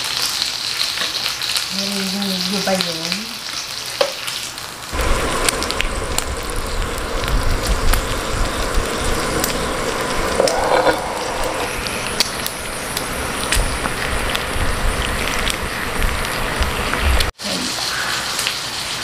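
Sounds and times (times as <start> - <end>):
meat sizzling with crackling pops: 0.0 - 19.0.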